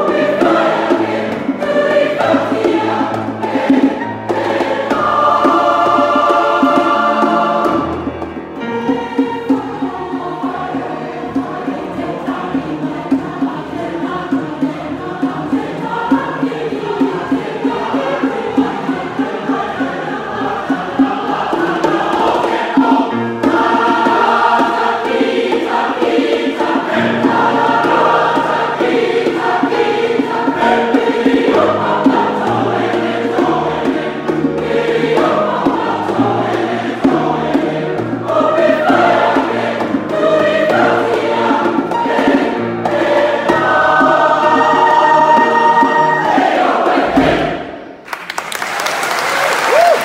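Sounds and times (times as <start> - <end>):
choir singing in harmony: 0.0 - 48.0.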